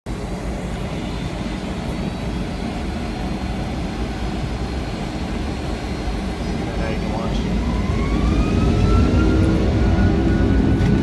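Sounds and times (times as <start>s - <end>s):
jet engines rumbling in cabin: 0.1s - 11.0s.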